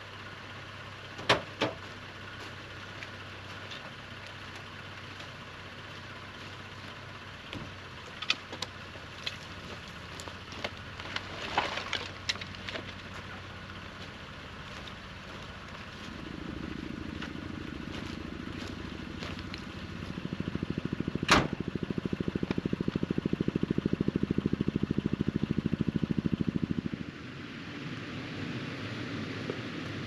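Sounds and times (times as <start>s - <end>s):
engine running with fast pulse: 0.0s - 30.0s.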